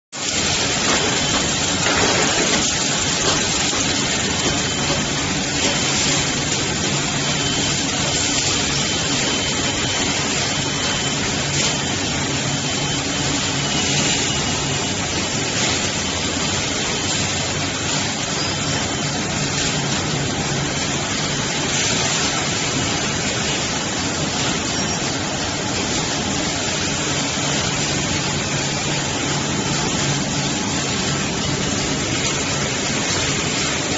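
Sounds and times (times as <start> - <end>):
packaging machine running: 0.2 - 33.9.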